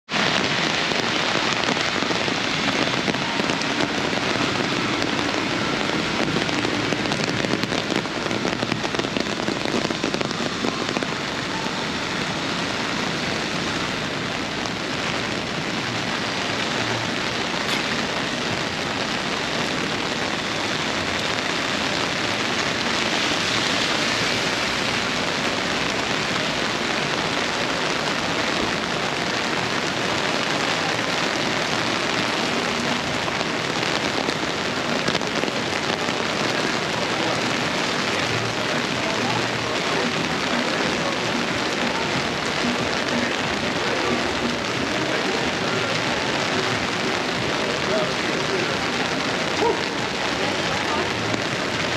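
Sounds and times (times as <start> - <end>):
heavy rain on ground: 0.0 - 51.9.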